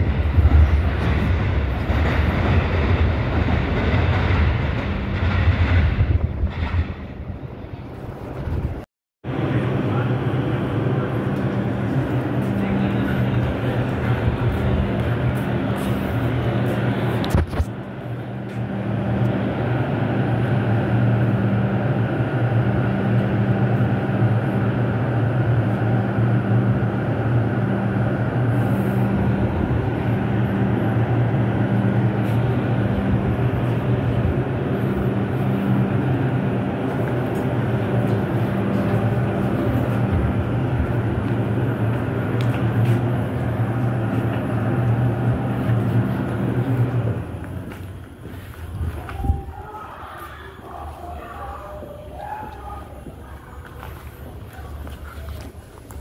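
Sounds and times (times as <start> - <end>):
subway train rumbling on rails: 0.0 - 56.0.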